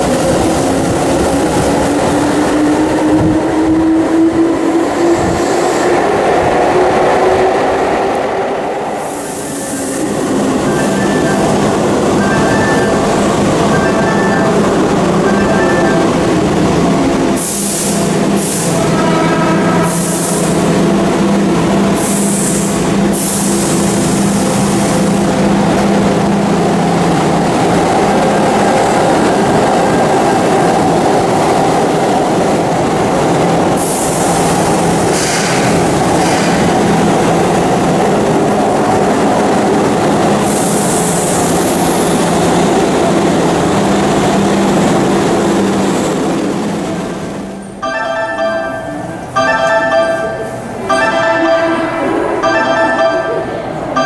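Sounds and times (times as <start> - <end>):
train wheels and motors rumbling: 0.0 - 54.0.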